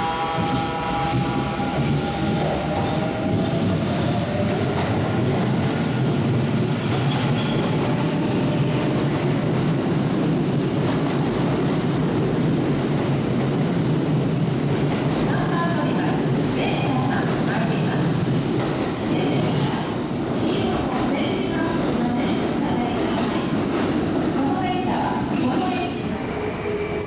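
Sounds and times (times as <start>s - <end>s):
train wheels rumbling and clattering: 0.0s - 26.3s.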